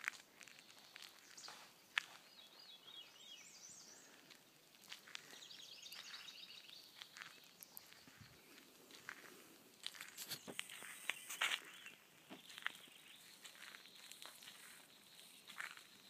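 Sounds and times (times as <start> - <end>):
footsteps on gravel: 0.0 - 3.3, 4.0 - 16.0
songbird singing: 0.0 - 16.0.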